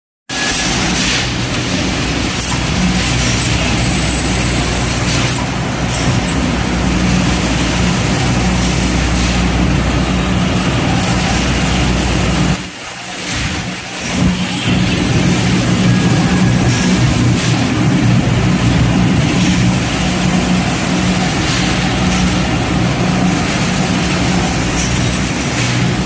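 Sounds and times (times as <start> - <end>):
bottling line machine noise: 0.3 - 26.0.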